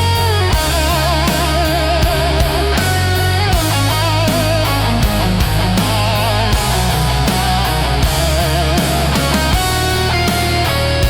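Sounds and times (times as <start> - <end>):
heavy metal music: 0.0 - 11.0
lead electric guitar with vibrato: 0.0 - 11.0.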